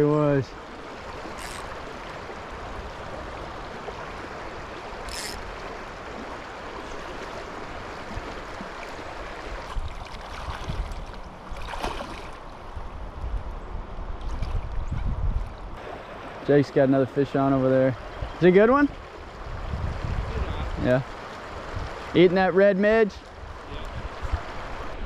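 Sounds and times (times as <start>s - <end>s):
river water rushing: 0.0s - 12.8s, 15.7s - 19.6s, 20.4s - 25.0s.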